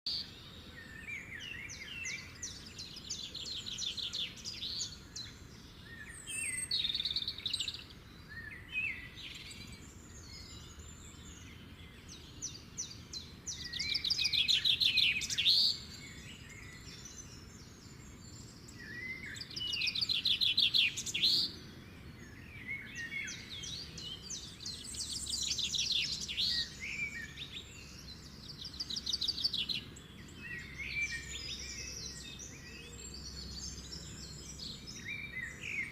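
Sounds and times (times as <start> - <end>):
birds singing trills: 0.1 - 35.9.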